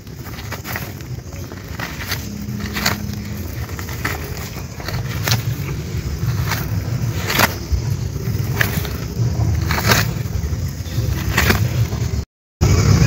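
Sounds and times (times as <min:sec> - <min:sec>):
fingers digging in damp soil: 0:00.0 - 0:12.2
steady low rumble: 0:00.0 - 0:13.0.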